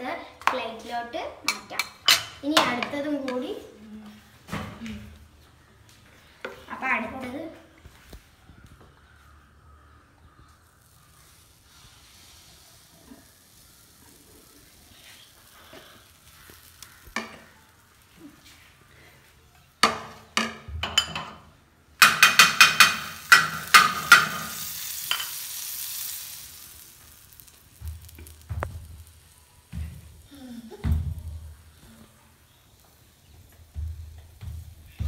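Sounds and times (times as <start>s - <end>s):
batter sizzling on hot pan: 0.2s - 4.3s, 9.0s - 35.0s.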